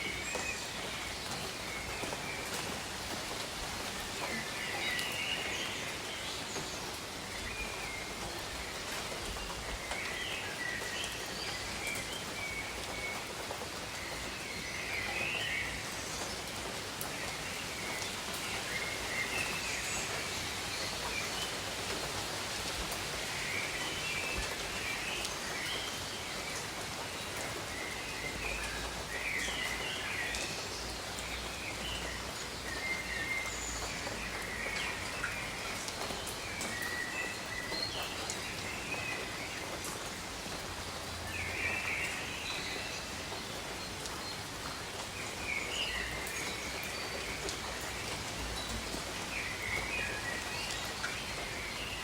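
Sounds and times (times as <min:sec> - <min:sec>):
rain falling on foliage: 0:00.0 - 0:52.0.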